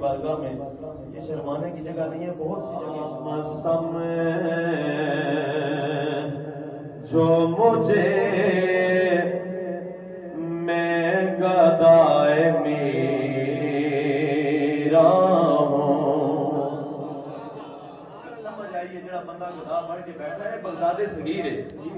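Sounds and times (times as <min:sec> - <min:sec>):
man chanting into a microphone: 0:00.0 - 0:17.6.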